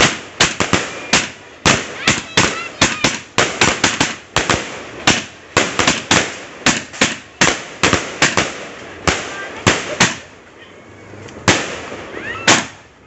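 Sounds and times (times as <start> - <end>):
fireworks bursting in sharp bangs: 0.0 - 10.4, 11.4 - 13.0.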